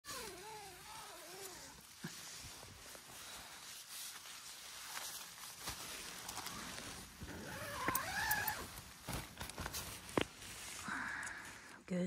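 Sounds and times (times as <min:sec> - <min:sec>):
rustling inside a nylon tent: 0:00.0 - 0:12.0.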